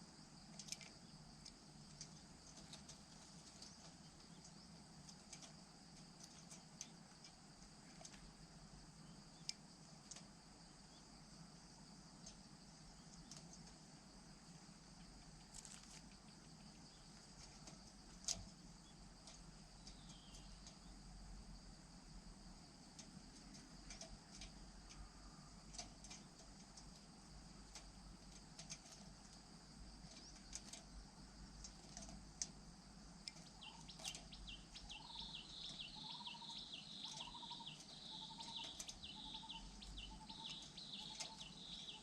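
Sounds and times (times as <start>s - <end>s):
insects trilling: 0.0s - 42.0s
faint clicks: 0.4s - 8.3s, 9.4s - 10.4s, 12.1s - 13.8s, 14.9s - 21.0s, 22.8s - 32.6s, 33.2s - 42.0s.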